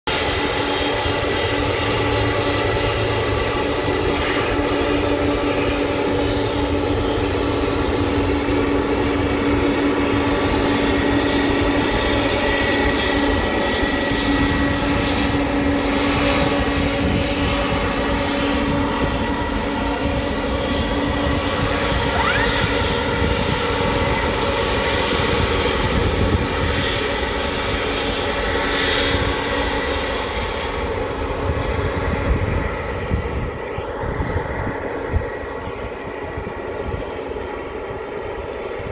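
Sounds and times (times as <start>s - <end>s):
jet engines rumbling and whining: 0.0s - 38.9s.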